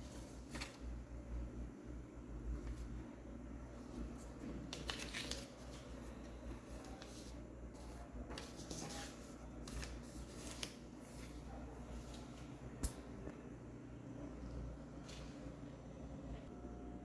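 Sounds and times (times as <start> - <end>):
electric fan motor hum: 0.0 - 17.0.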